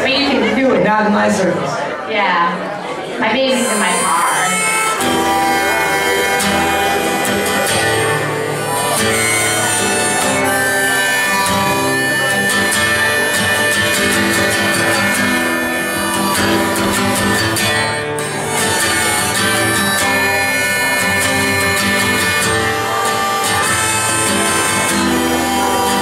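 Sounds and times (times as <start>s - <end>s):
live guitar music: 2.5s - 26.0s.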